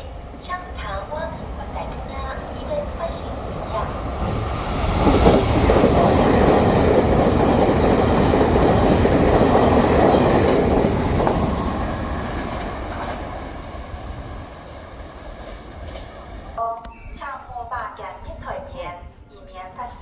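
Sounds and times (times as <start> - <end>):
train passing at speed: 0.0 - 16.6.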